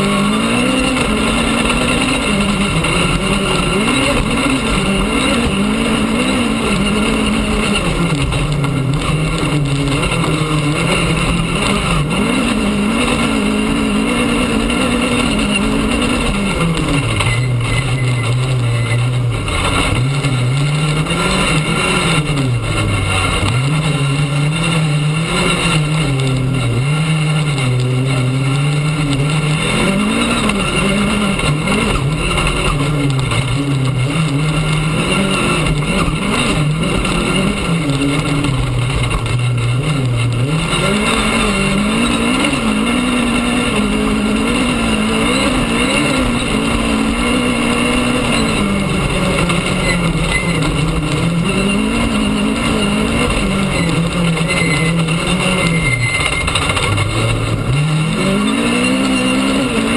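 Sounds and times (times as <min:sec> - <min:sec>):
rally car engine: 0:00.0 - 0:59.9
tyres on gravel: 0:00.0 - 0:59.9.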